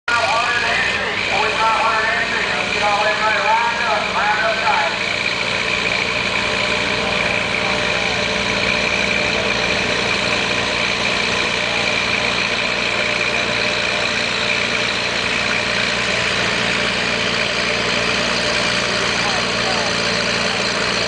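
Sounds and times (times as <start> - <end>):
other tractor engines running: 0.0 - 21.0
tractor engine idling: 0.0 - 21.0.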